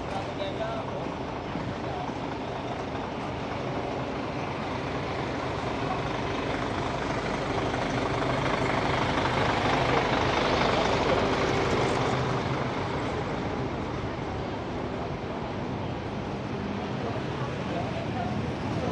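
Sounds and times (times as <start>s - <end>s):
bus driving past: 0.0s - 18.9s.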